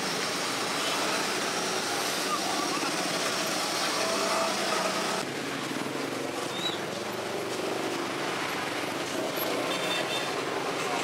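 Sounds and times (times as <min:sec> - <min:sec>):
street background noise: 0:00.0 - 0:11.0.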